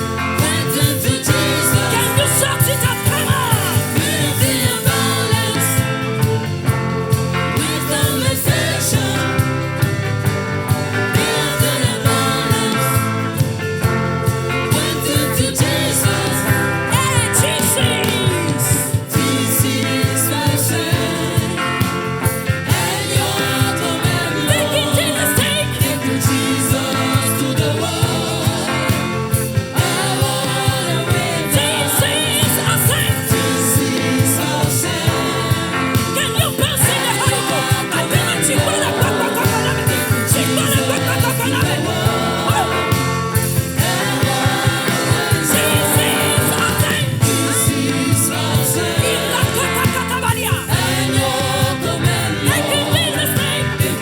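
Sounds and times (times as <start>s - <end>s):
person singing: 0.0s - 10.2s, 11.1s - 13.5s, 14.6s - 54.0s
gospel band playing: 0.0s - 54.0s.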